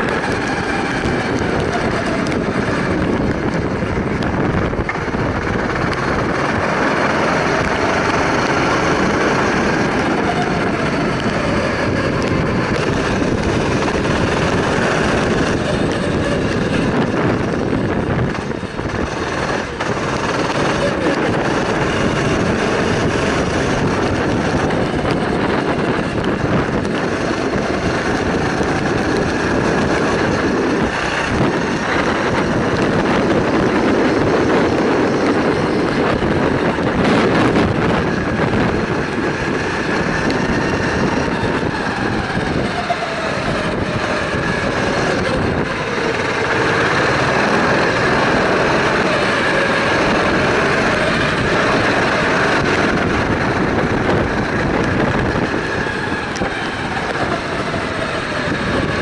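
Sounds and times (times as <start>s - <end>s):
go-kart engine running hard: 0.0s - 59.0s
rushing wind noise: 0.0s - 59.0s.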